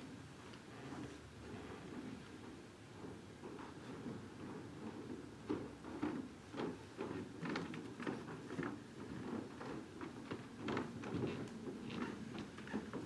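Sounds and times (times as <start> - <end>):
soft rustling and knocks: 0.5 - 13.0.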